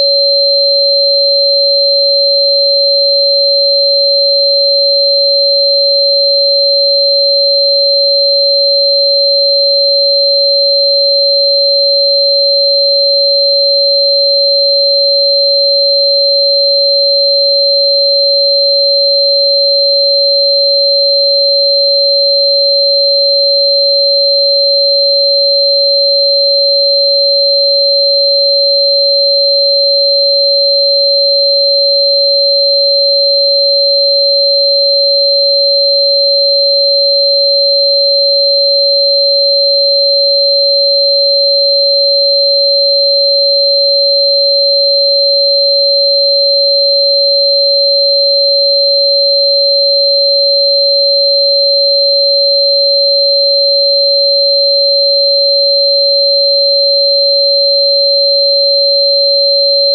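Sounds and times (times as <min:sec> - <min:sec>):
loud sine tone: 0:00.0 - 0:59.9.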